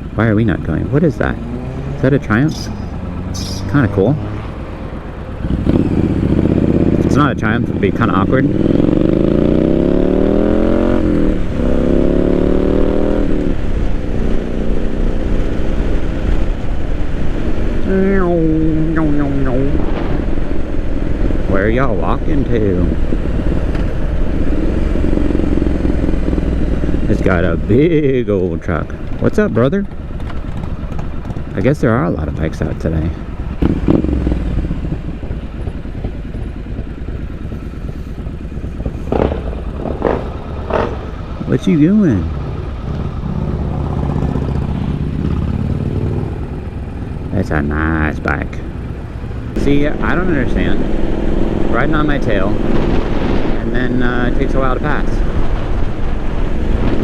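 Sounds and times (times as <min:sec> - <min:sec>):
low wind rumble: 0:00.0 - 0:57.0
motorcycle engine accelerating: 0:00.0 - 0:57.0.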